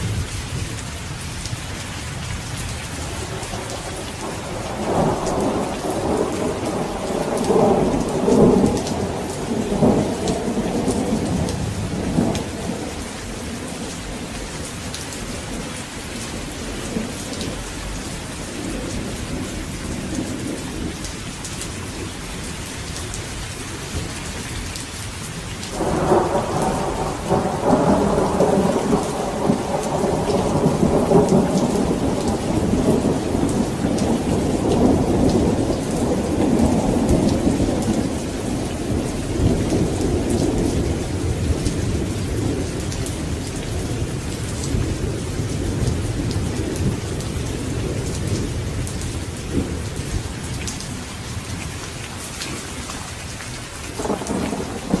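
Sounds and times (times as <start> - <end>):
steady rain hissing: 0.0 - 55.0
rolling thunder: 2.5 - 21.2, 25.7 - 51.7, 53.9 - 55.0.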